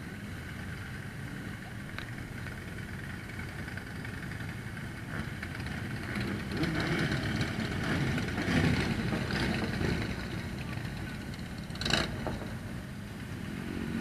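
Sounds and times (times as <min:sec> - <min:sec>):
motorcycles riding past: 0:00.0 - 0:14.0.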